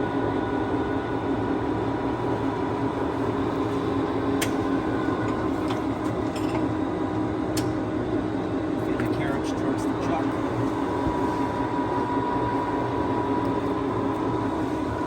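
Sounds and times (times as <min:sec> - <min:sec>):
lathe running with mechanical hum: 0:00.0 - 0:15.0.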